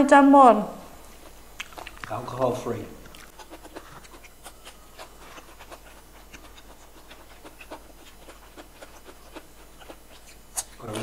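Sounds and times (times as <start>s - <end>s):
wet chewing mouth clicks: 1.1s - 11.0s.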